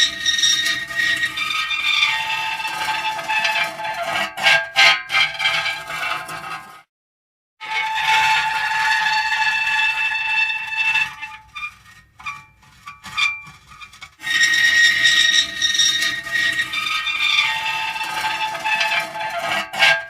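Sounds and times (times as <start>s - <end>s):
metal creaking and squealing: 0.0s - 6.8s, 7.6s - 20.0s.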